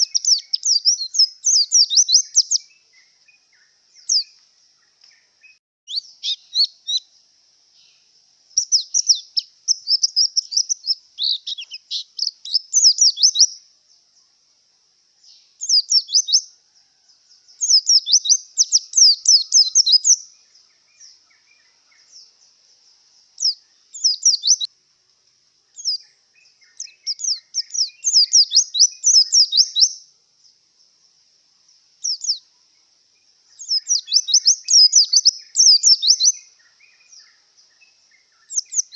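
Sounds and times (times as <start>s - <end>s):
bird high twittering song: 0.0s - 14.5s, 15.1s - 24.7s, 25.6s - 38.9s.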